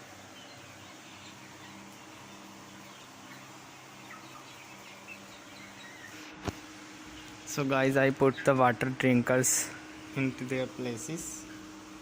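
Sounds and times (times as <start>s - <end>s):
poultry calling: 0.0s - 11.8s
steady low hum: 0.0s - 12.0s.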